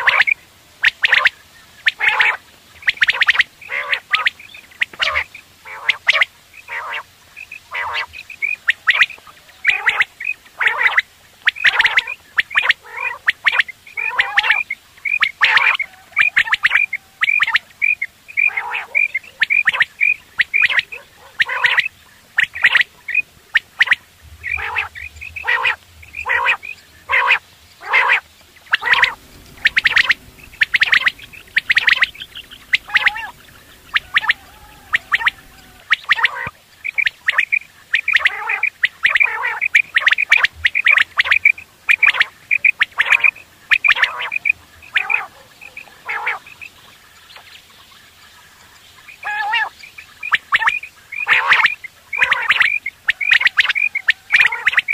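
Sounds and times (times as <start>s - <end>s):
quail calling: 0.0s - 47.5s, 49.1s - 54.9s.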